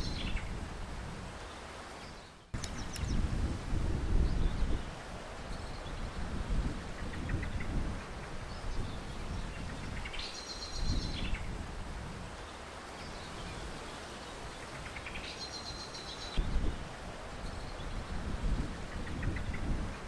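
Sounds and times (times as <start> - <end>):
wind gusts on microphone: 0.0 - 20.0.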